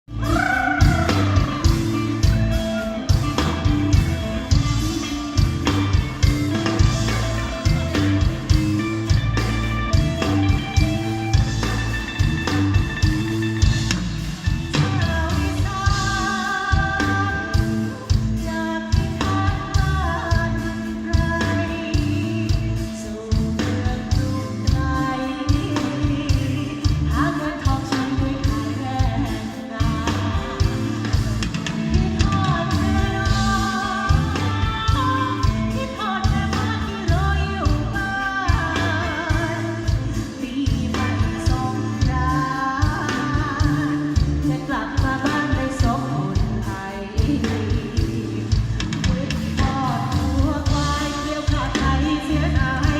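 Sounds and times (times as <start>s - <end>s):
band music: 0.0s - 52.9s.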